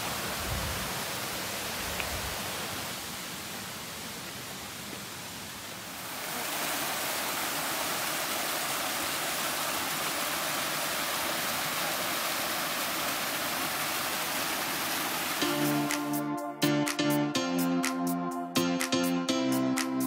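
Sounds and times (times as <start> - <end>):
stream water rushing: 0.0 - 16.2.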